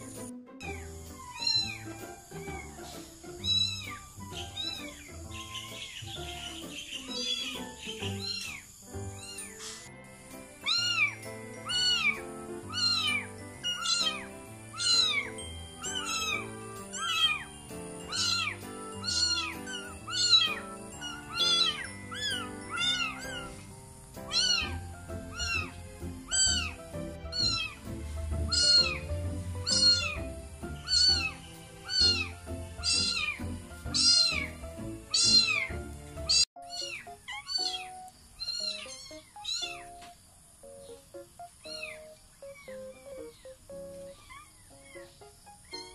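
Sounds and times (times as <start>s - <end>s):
background music: 0.0s - 45.9s
newborn kittens mewing: 1.1s - 5.1s, 7.1s - 9.9s, 10.6s - 40.0s, 41.6s - 43.4s.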